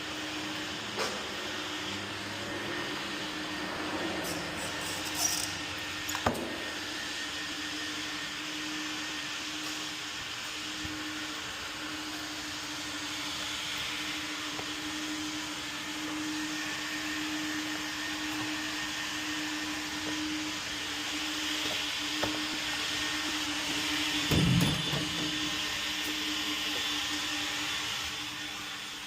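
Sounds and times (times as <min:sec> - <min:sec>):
machine hissing and humming: 0:00.0 - 0:29.0.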